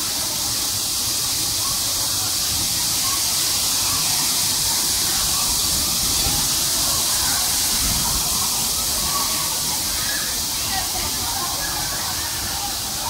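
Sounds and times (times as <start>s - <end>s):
waterfall crashing into pool: 0.0s - 13.0s.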